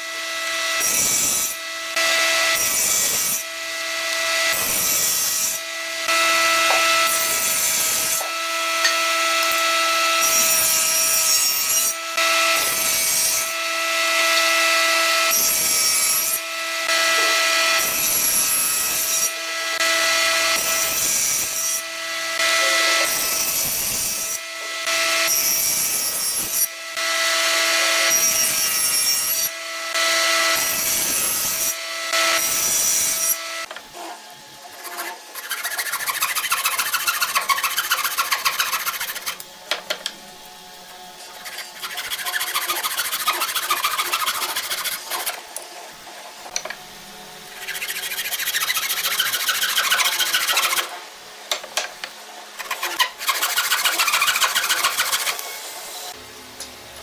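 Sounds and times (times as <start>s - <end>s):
saw blade cutting wood: 0.0s - 56.8s
table saw humming: 0.0s - 57.0s.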